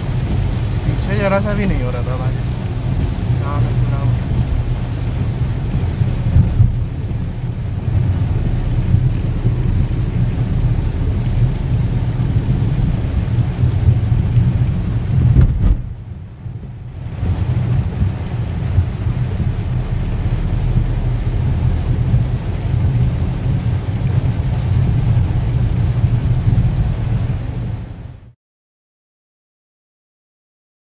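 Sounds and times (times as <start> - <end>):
road and engine rumble in car: 0.0 - 28.3
rain hiss: 0.0 - 28.4.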